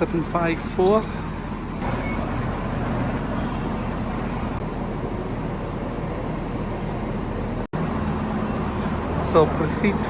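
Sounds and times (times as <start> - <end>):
electric train humming: 0.0 - 10.0
station noise: 0.0 - 10.0.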